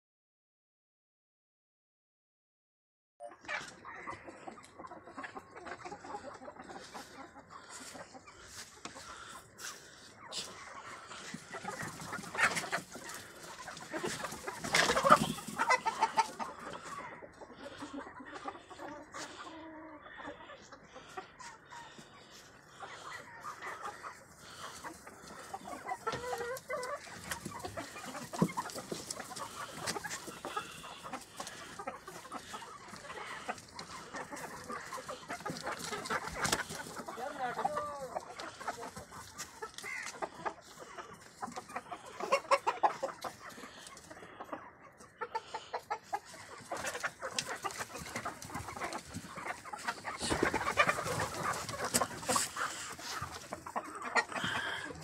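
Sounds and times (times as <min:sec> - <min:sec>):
chickens clucking and calling: 0:03.2 - 0:55.0.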